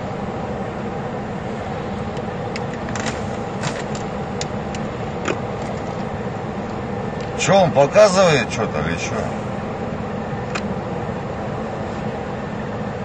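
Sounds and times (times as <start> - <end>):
helicopter rumbling: 0.0 - 13.0.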